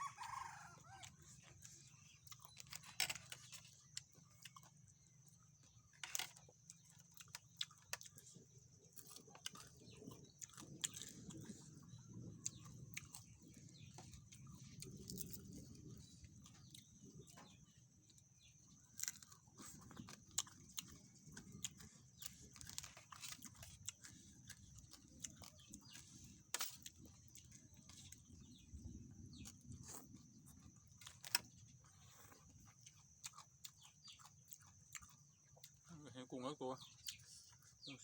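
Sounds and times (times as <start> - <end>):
chewing crunches and mouth clicks: 1.0 - 36.0, 36.8 - 37.9.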